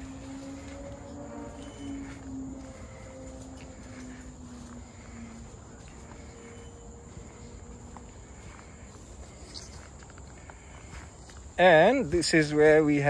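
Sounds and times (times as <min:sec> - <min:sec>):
footsteps on dirt trail: 0:00.0 - 0:13.0
insects droning: 0:00.0 - 0:13.0.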